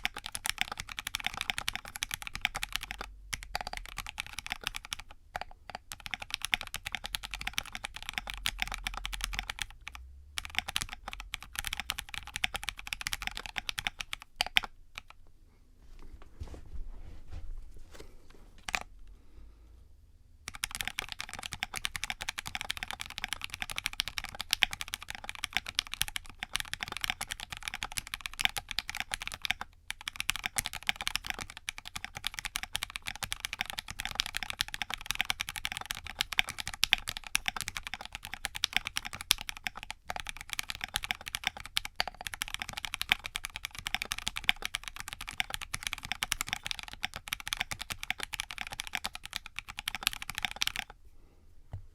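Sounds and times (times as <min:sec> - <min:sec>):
fast mechanical keyboard typing: 0:00.0 - 0:15.1, 0:20.5 - 0:50.9.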